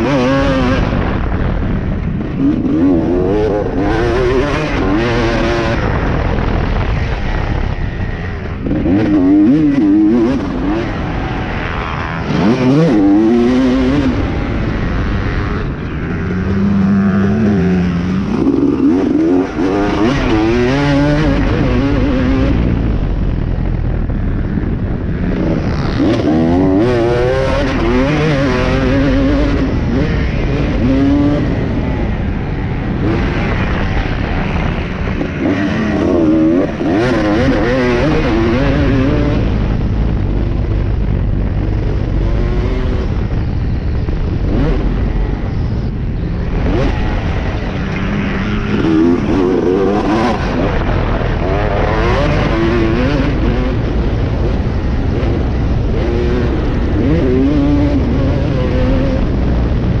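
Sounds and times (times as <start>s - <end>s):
dirt bike engine revving: 0.0s - 23.0s, 24.1s - 40.8s, 41.4s - 43.8s, 44.4s - 45.6s, 46.3s - 60.0s.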